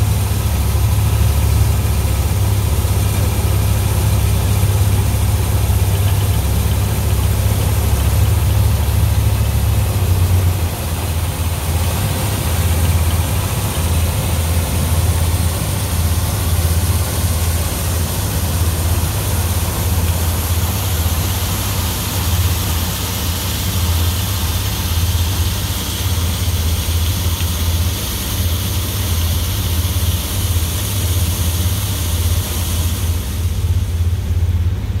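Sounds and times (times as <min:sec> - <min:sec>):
corn picker machinery hiss: 0:00.0 - 0:35.0
tractor engine drone: 0:00.0 - 0:35.0.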